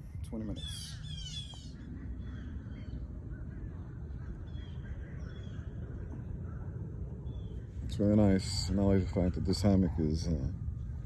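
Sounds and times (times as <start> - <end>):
faint bird chirps: 0.0 - 11.0
steady low rumble: 0.0 - 11.0.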